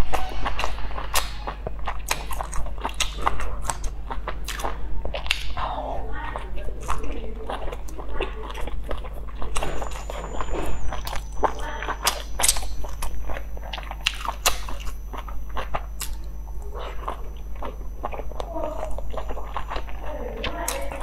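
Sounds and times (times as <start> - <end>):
person chewing dumplings: 0.0 - 21.0
mouth clicks and smacks: 0.6 - 20.0.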